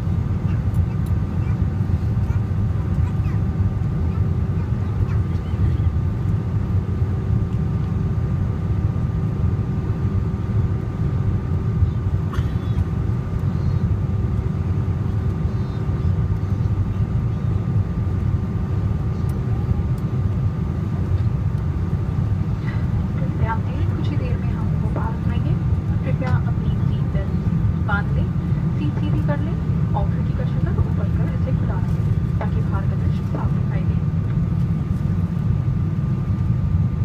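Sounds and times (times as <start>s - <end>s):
airliner cabin engine roar: 0.0s - 37.0s.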